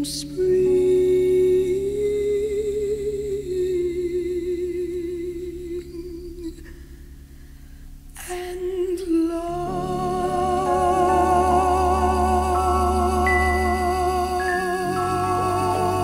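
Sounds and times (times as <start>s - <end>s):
woman singing with vibrato: 0.0s - 6.6s, 8.2s - 16.0s
sustained accompaniment: 0.0s - 16.0s.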